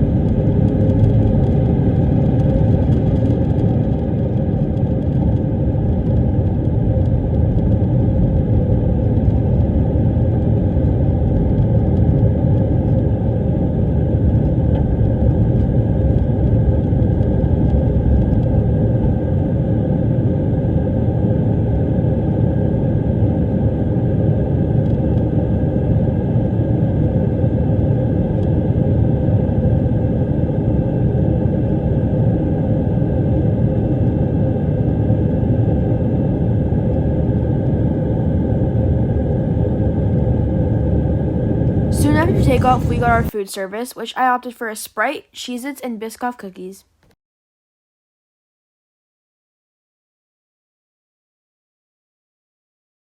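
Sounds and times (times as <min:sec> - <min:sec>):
jet engines and airflow in cabin: 0:00.0 - 0:45.2.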